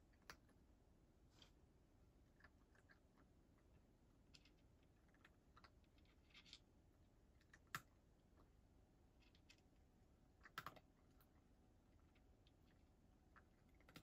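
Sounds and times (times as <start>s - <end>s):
cat chewing food: 2.2s - 14.0s.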